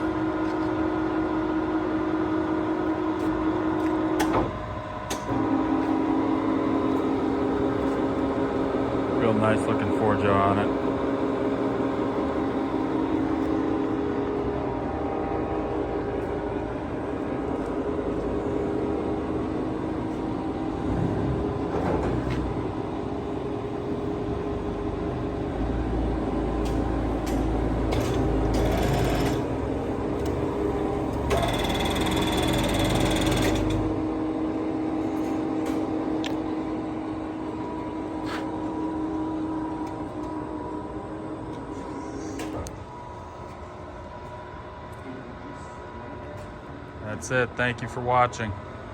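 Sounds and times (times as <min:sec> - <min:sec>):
lathe mechanical hum and whine: 0:00.0 - 0:48.9.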